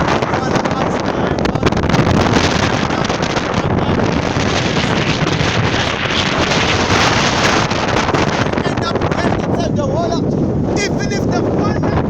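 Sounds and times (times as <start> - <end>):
ocean waves washing: 0.0 - 12.0
wind buffeting microphone: 0.0 - 12.0.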